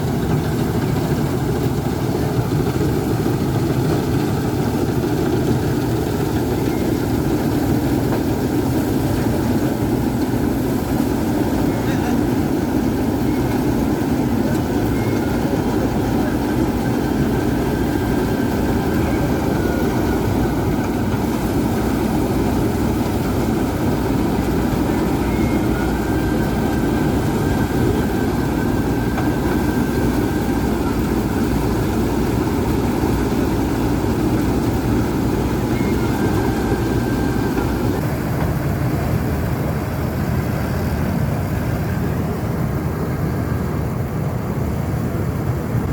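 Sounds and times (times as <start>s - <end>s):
harvesting machine engine running: 0.0s - 45.9s.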